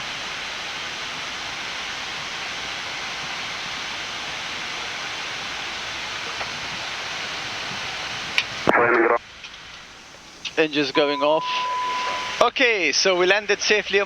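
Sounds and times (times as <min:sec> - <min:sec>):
steady cockpit hiss: 0:00.0 - 0:14.0.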